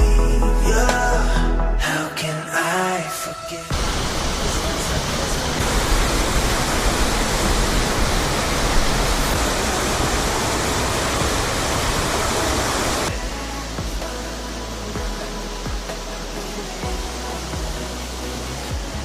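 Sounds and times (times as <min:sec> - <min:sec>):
background music: 0:00.0 - 0:07.8, 0:08.5 - 0:19.0
waterfall rushing: 0:03.7 - 0:19.0.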